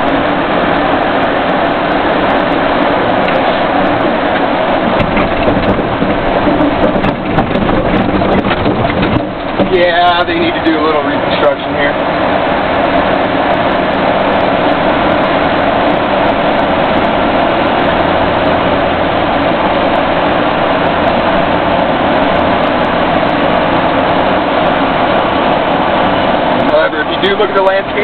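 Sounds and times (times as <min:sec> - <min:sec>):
vehicle engine and road noise drone: 0:00.0 - 0:28.0.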